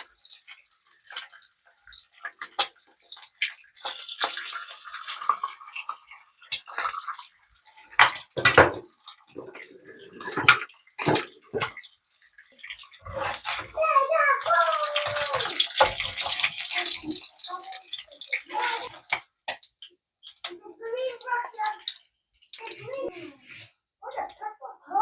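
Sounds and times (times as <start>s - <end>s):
water running or splashing: 0.0s - 24.4s.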